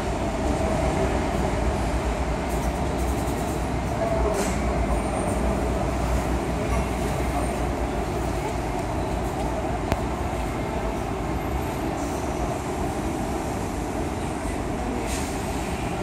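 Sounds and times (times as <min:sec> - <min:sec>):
busy indoor hall hum: 0:00.0 - 0:16.0.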